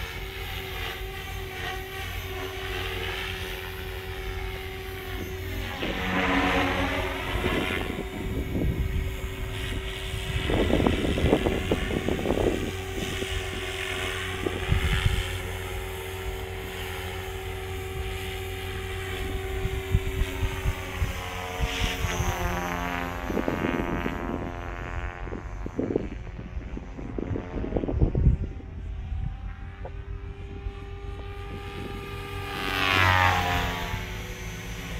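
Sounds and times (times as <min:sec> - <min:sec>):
rc helicopter rotor whine: 0:00.0 - 0:34.9.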